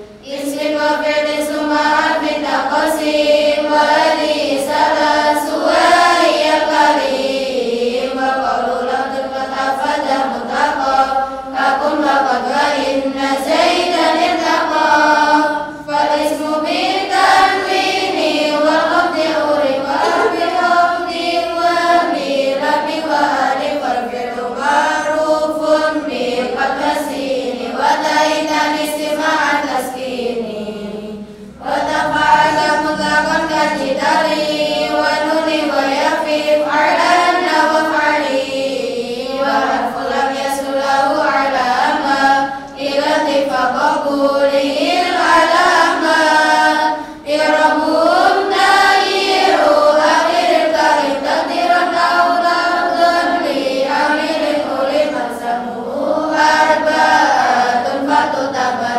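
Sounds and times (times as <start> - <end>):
girls chanting in unison: 0.0 - 58.9.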